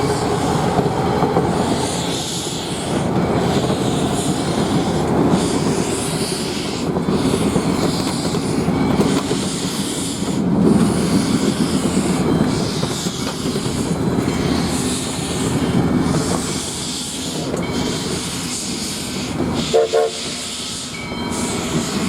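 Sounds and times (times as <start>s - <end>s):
steam locomotive exhaust beats: 0.0s - 22.0s
train rumbling: 0.0s - 22.0s.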